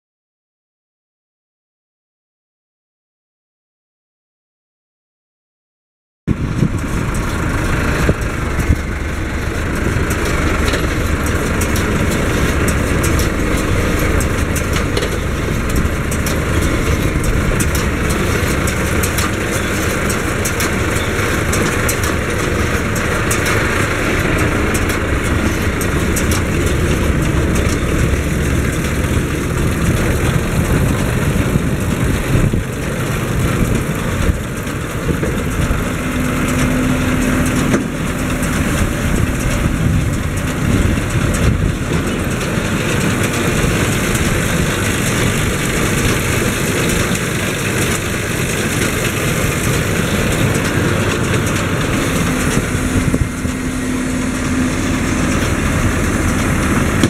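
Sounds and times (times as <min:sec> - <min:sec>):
tractor engine idling: 0:06.3 - 0:57.0.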